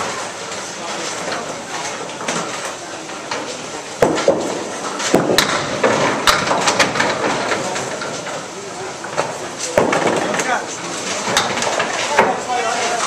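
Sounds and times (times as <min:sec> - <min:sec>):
bowling alley background noise: 0:00.0 - 0:13.0
bowling balls and pins clacking: 0:01.0 - 0:13.0.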